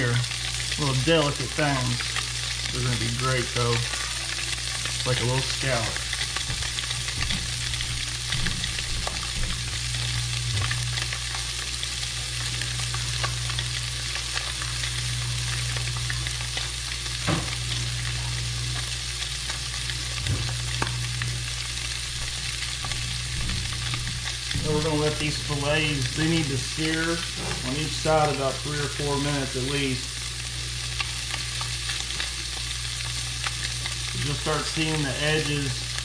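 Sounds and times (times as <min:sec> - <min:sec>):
low hum: 0:00.0 - 0:34.6
fish sizzling in hot oil: 0:00.0 - 0:36.0.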